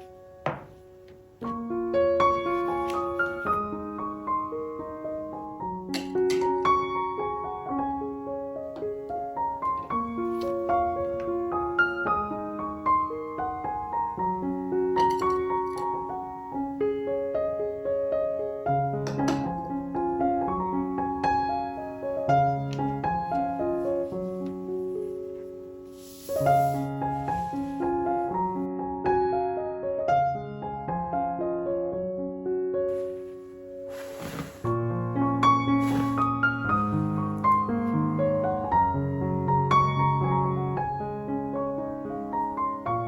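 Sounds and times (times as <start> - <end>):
soft piano melody: 0.0 - 43.0.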